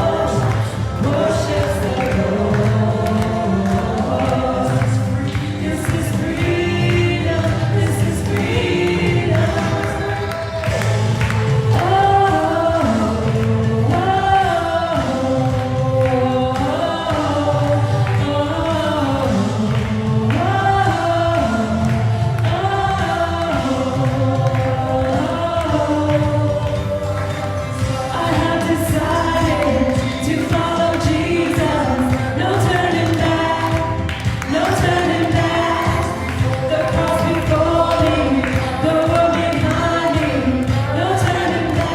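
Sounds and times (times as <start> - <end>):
group of voices singing: 0.0 - 41.9
instrumental backing with bass: 0.0 - 41.9.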